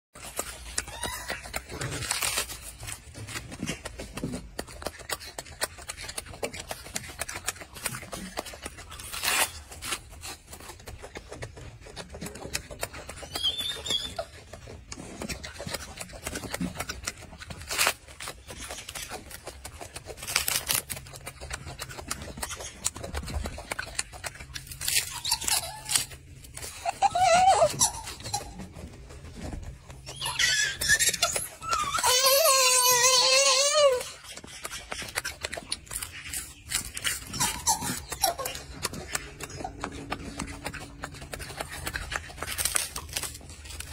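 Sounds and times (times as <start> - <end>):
monkey chewing lettuce crunches: 0.2 - 43.9.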